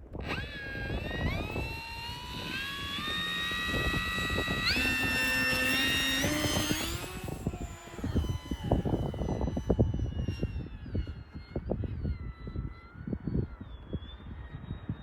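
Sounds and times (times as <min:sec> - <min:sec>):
rc plane motor whining: 0:00.0 - 0:15.0
wind rumble on microphone: 0:00.0 - 0:15.0.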